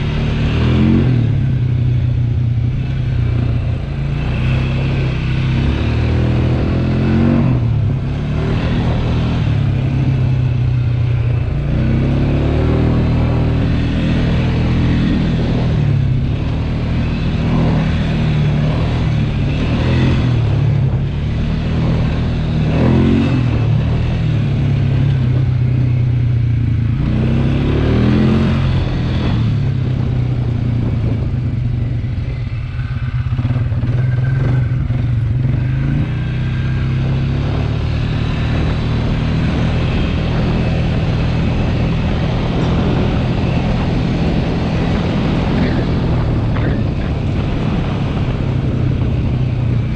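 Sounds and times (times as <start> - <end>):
atv engine running and revving: 0.0 - 49.9.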